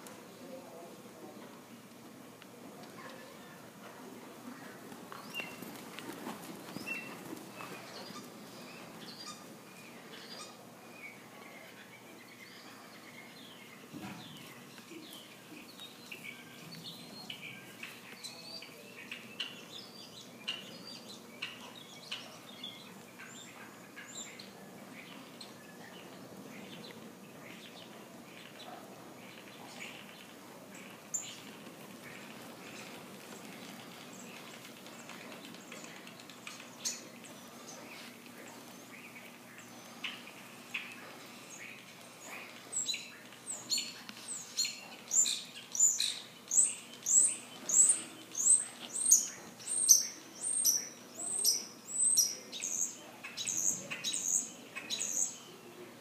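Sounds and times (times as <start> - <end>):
birds chirping: 2.9 - 56.0.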